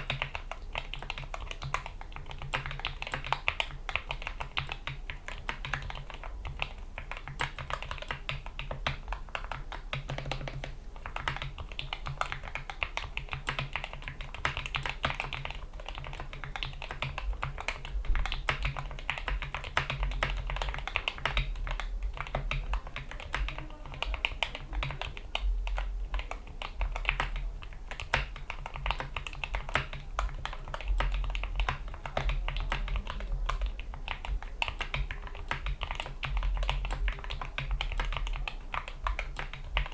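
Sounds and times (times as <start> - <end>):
rapid mechanical keyboard typing: 0.0 - 39.9.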